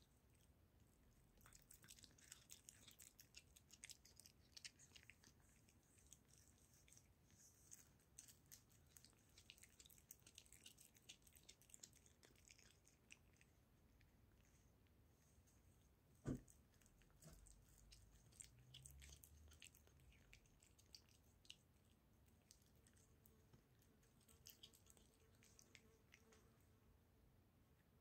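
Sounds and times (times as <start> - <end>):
kitten chewing and licking: 0.0 - 28.0.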